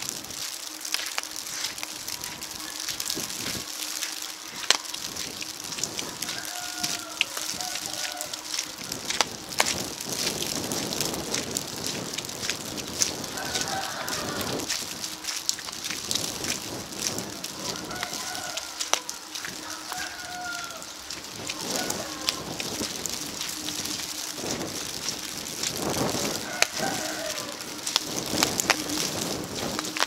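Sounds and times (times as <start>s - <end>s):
drops ticking near microphone: 0.0s - 30.0s
sleet pattering on wet street: 0.0s - 30.0s.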